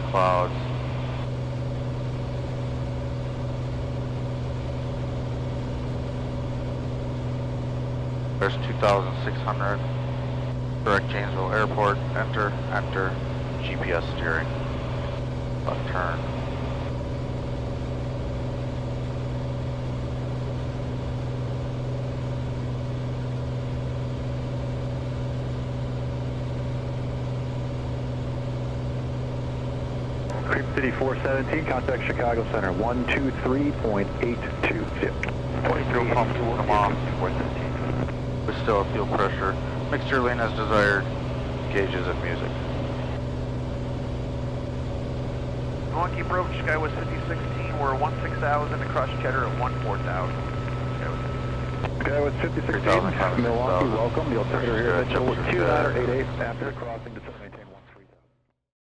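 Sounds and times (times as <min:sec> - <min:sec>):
airplane engine and propeller droning: 0:00.0 - 0:58.2.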